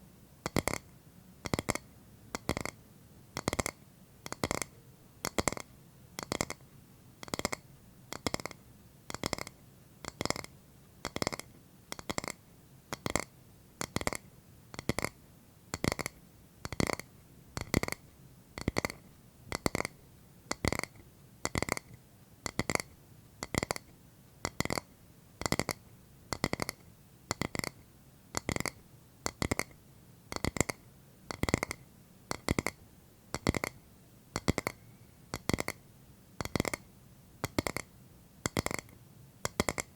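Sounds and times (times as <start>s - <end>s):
double tapping on hard object: 0.4s - 1.8s, 2.4s - 2.8s, 3.4s - 6.6s, 7.2s - 14.2s, 14.8s - 18.0s, 18.6s - 27.8s, 28.4s - 33.8s, 34.4s - 35.8s, 36.4s - 39.9s.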